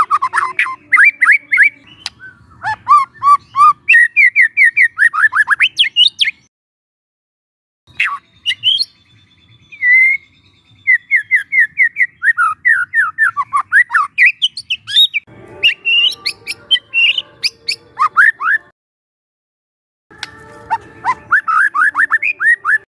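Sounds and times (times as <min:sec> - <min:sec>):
bird singing whistled notes: 0:00.0 - 0:06.5, 0:07.9 - 0:18.7, 0:20.2 - 0:22.9.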